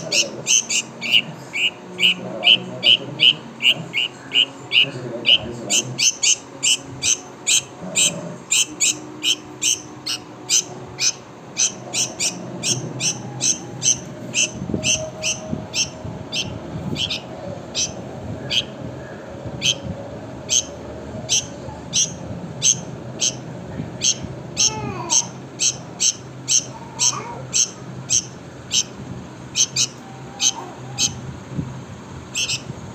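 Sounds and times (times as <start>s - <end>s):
small bird chipping: 0.0s - 18.8s, 19.6s - 19.8s, 20.5s - 31.2s, 32.3s - 32.7s.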